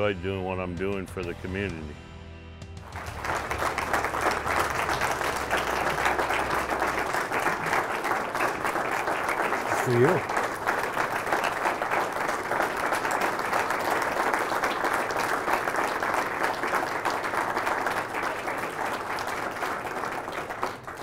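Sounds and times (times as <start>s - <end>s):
audience applauding: 2.8s - 21.0s.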